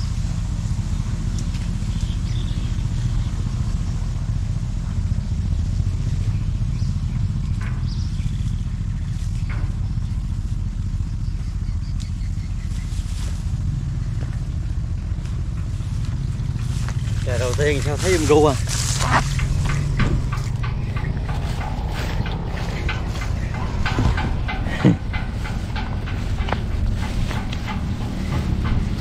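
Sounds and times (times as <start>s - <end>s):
small engine humming: 0.0s - 29.0s.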